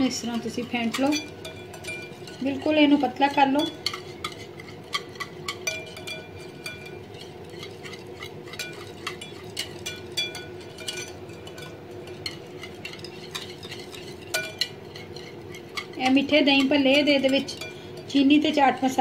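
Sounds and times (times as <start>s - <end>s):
steady low hum: 0.0s - 19.0s
whisk clinking against glass bowl: 0.0s - 19.0s.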